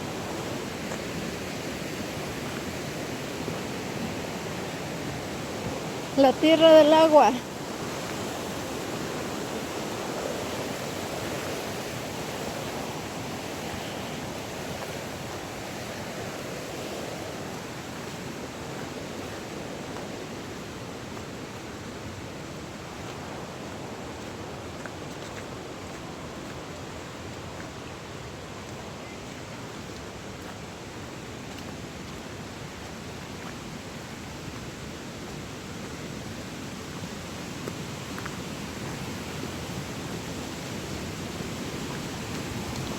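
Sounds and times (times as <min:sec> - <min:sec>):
rushing water: 0:00.0 - 0:42.9.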